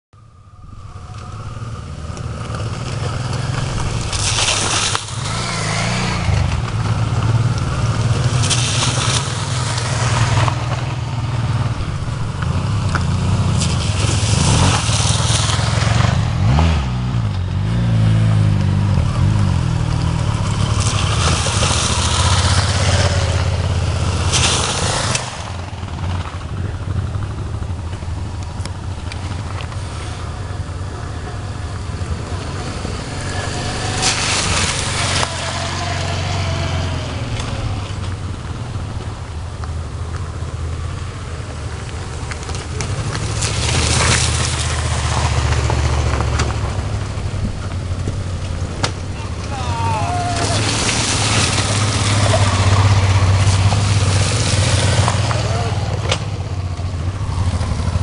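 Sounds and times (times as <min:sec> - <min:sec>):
motorcycle engines running: 0:00.2 - 0:58.0.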